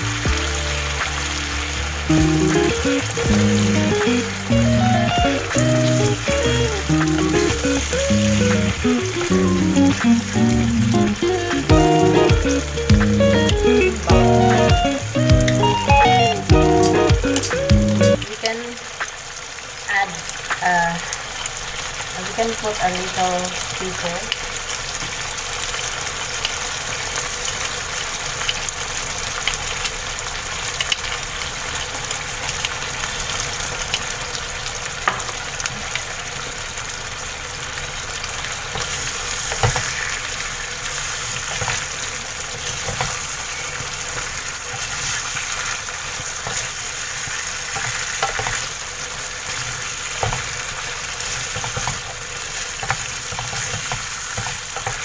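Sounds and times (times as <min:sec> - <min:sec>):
fish sizzling in a pan: 0:00.0 - 0:55.0.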